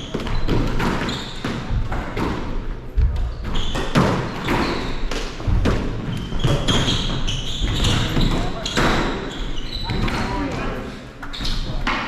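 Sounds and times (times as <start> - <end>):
ball hits echoing indoors: 0.0 - 10.8.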